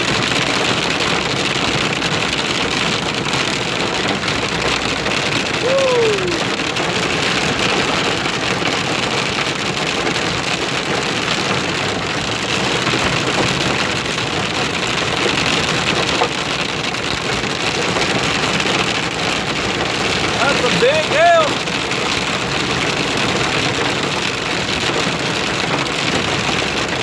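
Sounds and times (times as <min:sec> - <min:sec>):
hail and rain on vehicle roof: 0:00.0 - 0:27.0.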